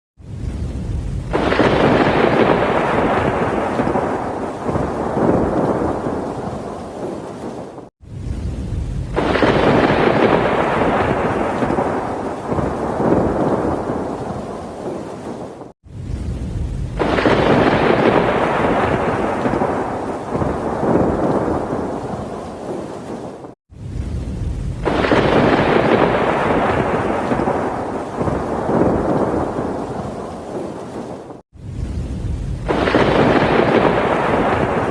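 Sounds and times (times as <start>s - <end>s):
loud thunderclap: 0.2s - 34.9s
thunder rumbling: 0.2s - 34.9s.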